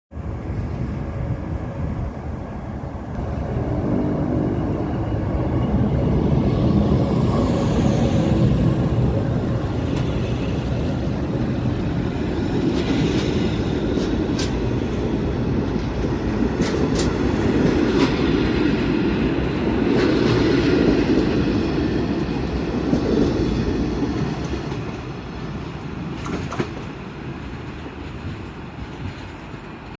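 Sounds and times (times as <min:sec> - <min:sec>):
train wheels rumbling on rail: 0:00.1 - 0:30.0.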